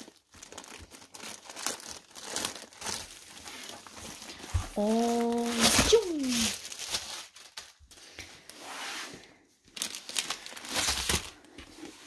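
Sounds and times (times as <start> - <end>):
packaging crinkling and rustling: 0.0 - 8.6, 9.2 - 12.0.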